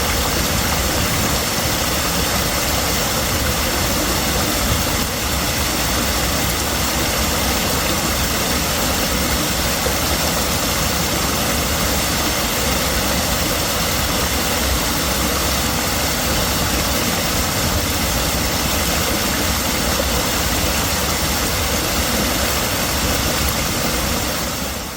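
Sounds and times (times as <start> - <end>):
rushing water: 0.0 - 24.9.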